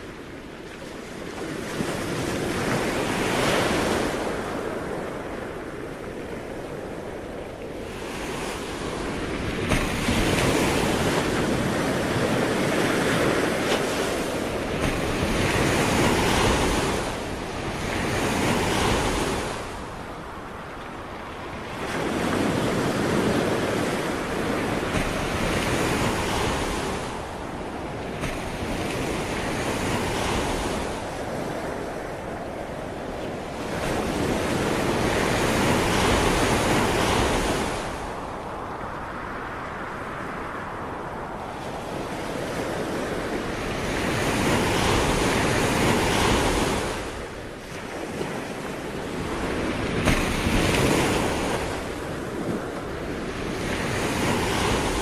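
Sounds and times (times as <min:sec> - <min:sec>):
sea waves breaking on shore: 0:00.0 - 0:55.0
wind on microphone: 0:00.0 - 0:55.0.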